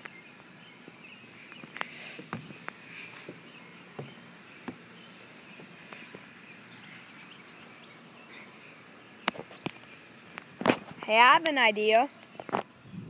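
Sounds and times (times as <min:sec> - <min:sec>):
faint chirps: 0:00.0 - 0:11.1.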